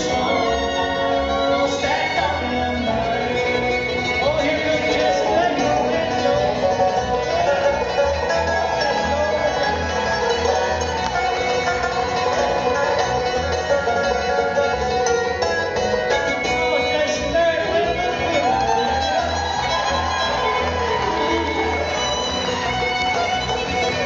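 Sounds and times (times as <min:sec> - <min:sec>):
banjo picking: 0:00.0 - 0:24.0
guitar: 0:00.0 - 0:24.0.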